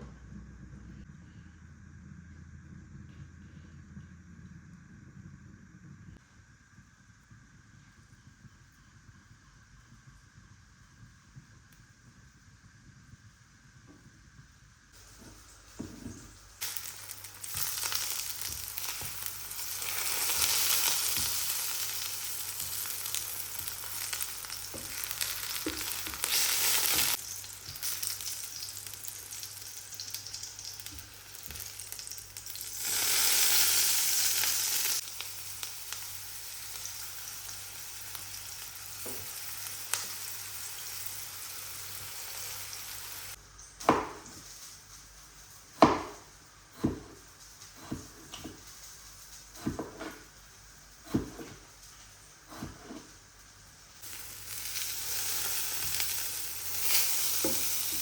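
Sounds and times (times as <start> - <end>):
food sizzling in a pan: 11.0 - 58.0.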